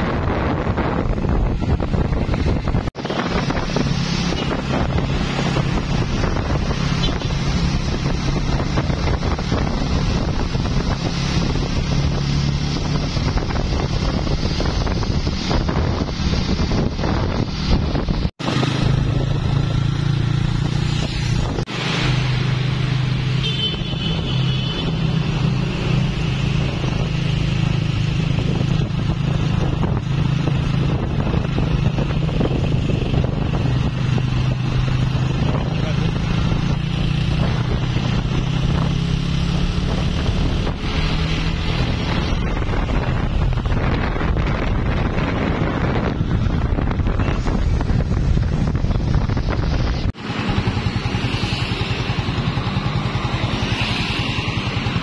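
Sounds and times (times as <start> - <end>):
wind on microphone: 0.0 - 21.8, 22.4 - 55.0.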